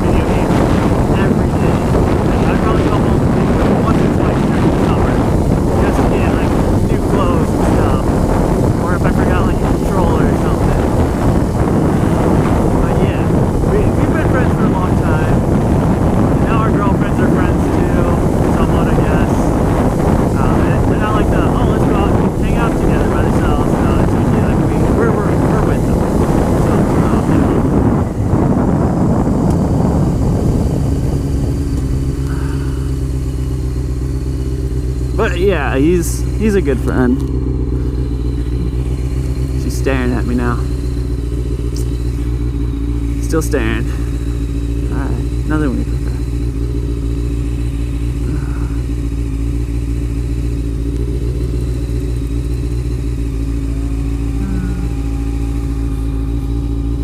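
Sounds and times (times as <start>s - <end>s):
motorcycle engine idling: 0.0s - 57.0s
wind rushing on microphone: 0.0s - 57.0s.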